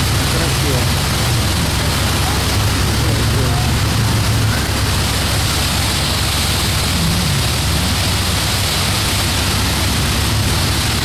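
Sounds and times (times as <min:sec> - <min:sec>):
churning wake water: 0:00.0 - 0:11.0
low engine hum: 0:00.0 - 0:11.0.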